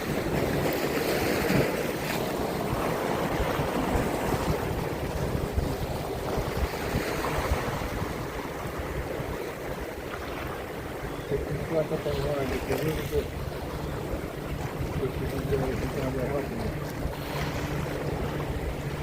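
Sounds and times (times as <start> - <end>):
sea waves on rocky shore: 0.0 - 19.0
wind buffeting microphone: 0.0 - 19.0.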